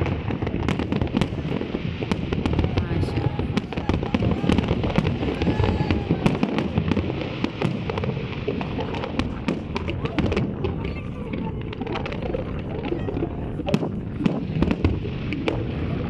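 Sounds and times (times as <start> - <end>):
continuous low rumble: 0.0 - 16.0
fireworks bangs and crackles: 0.0 - 16.0.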